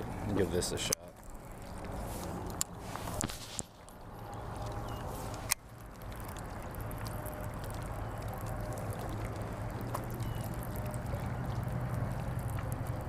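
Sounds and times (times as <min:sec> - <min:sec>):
running water trickling: 0:00.0 - 0:13.0
faint ticks: 0:00.9 - 0:13.0.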